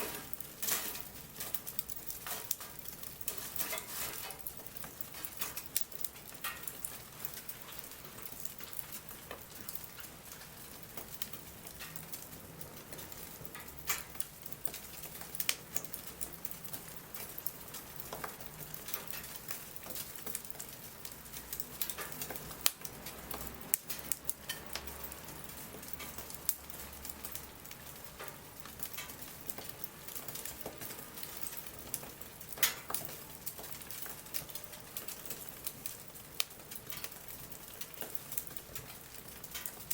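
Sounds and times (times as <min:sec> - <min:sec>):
bonfire crackling and popping: 0:00.0 - 0:39.9
light rain hissing: 0:00.0 - 0:39.9.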